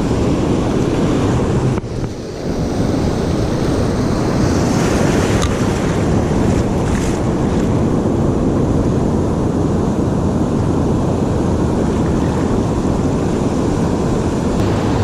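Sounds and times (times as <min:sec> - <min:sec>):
ocean surf rumbling: 0:00.0 - 0:15.0
wind buffeting microphone: 0:00.0 - 0:15.0.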